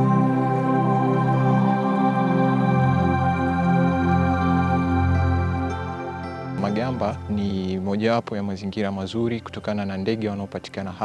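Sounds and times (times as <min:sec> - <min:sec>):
slow ambient music with organ chords: 0:00.0 - 0:11.0.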